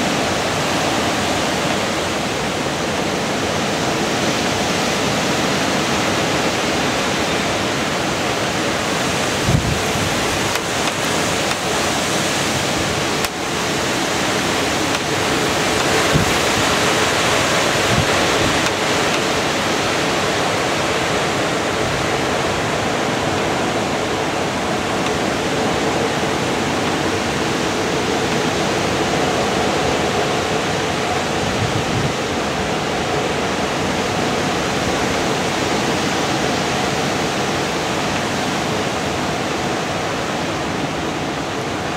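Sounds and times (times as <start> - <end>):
wind rustling tree leaves: 0.0 - 41.9.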